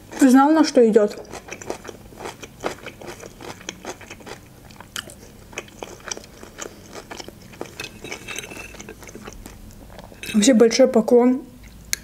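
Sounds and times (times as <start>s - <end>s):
person chewing food: 0.0s - 0.4s, 1.0s - 10.4s.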